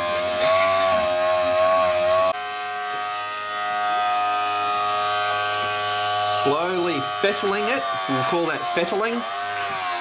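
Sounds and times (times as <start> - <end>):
rotary tool grinding plastic: 0.0 - 10.0.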